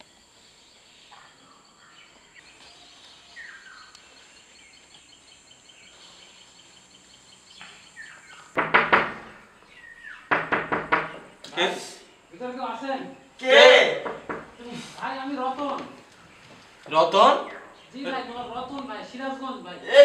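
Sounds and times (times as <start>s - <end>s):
birds chirping faintly: 0.0s - 20.0s.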